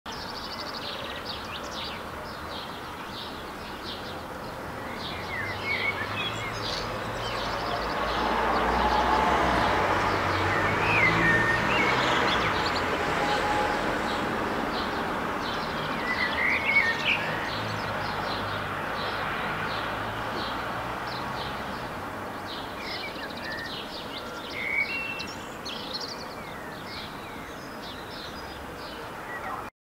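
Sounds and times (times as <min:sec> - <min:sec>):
blackbird singing: 0:00.1 - 0:08.8, 0:09.7 - 0:29.7.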